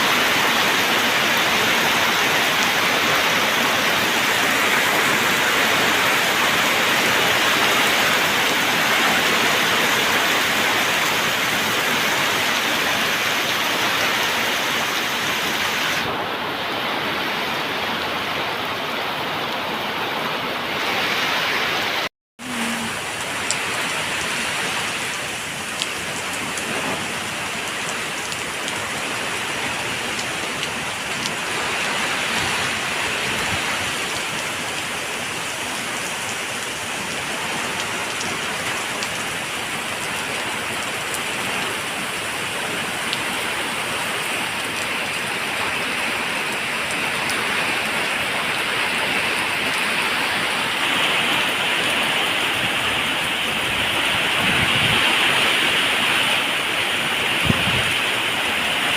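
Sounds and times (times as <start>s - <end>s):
rush of falling water: 0.0s - 58.9s.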